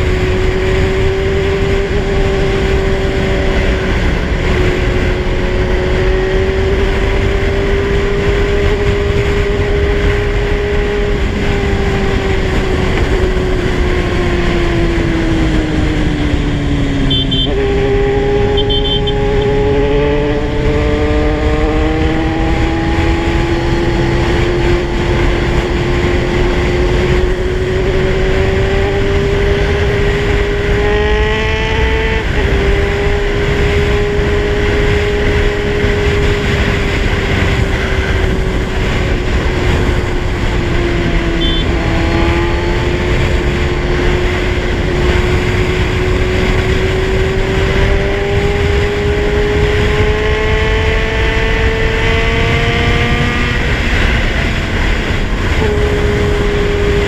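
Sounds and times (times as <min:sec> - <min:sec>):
motorcycle engine revving: 0:00.0 - 0:57.0
wind and road rumble: 0:00.0 - 0:57.0.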